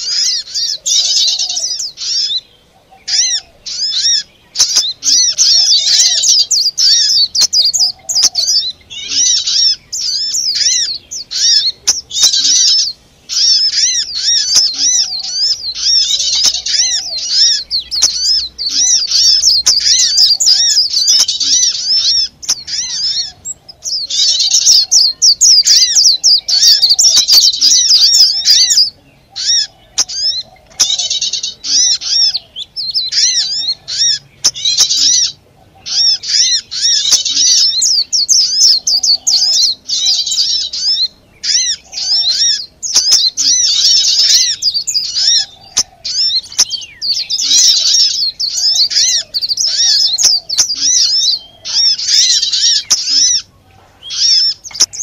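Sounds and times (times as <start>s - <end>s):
small songbirds chattering: 0.0s - 55.0s.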